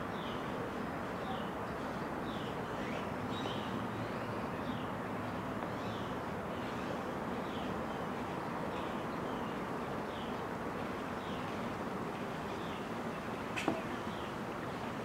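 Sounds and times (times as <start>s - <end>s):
distant city traffic hum: 0.0s - 15.0s.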